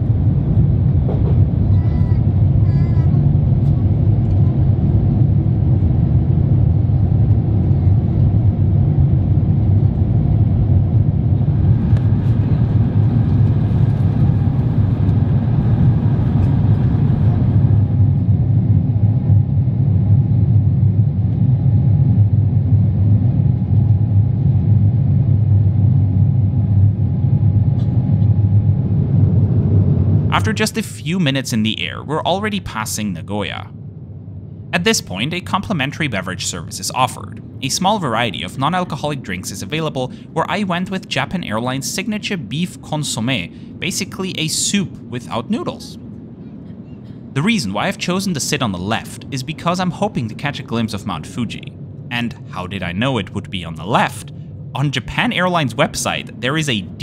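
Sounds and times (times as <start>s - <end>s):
rushing airflow: 0.0s - 46.5s
jet engine rumble: 0.0s - 57.0s.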